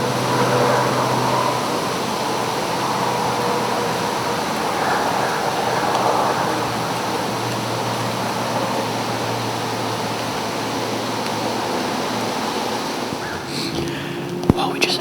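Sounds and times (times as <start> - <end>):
rushing wind: 0.0 - 15.0.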